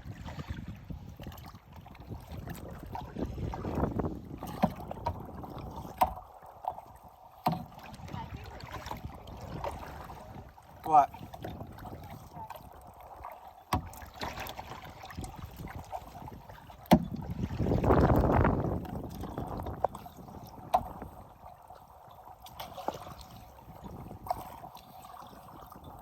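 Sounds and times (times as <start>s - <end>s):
water rushing: 2.0s - 26.0s.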